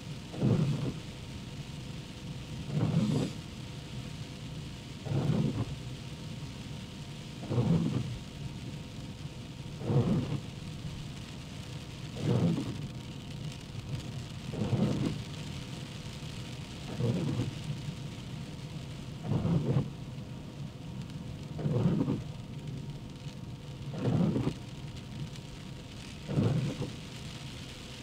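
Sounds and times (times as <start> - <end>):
rain hissing: 0.0 - 28.0
tyres on wet road: 0.0 - 28.0
windshield wipers sweeping wet glass: 0.2 - 20.1, 20.8 - 28.0.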